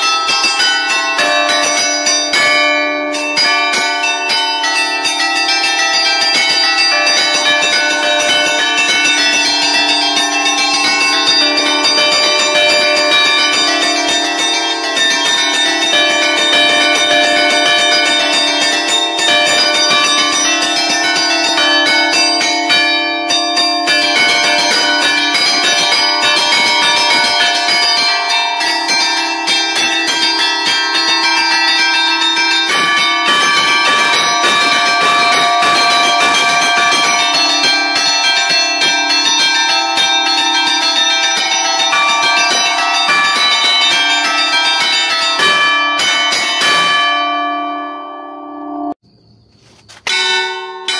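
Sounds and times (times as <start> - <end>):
church bells pealing: 0.0 - 49.0, 50.1 - 50.9.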